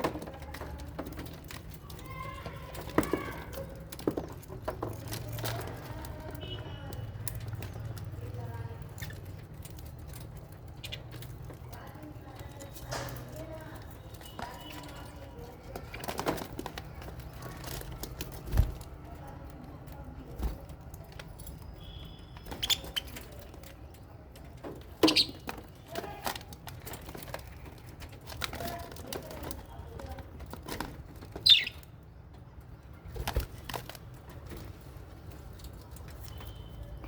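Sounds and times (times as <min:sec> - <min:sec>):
birds chirping: 0:00.4 - 0:19.5, 0:20.1 - 0:30.2, 0:31.0 - 0:37.0.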